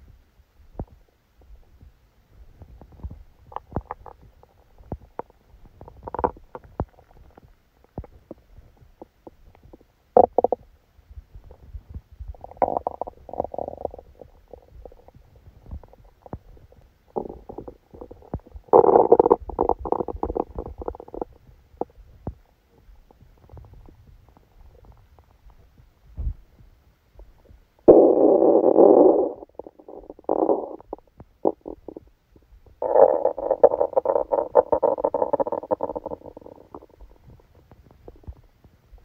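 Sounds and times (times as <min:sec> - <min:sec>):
stomach rumbling and gurgling: 0:00.7 - 0:39.0.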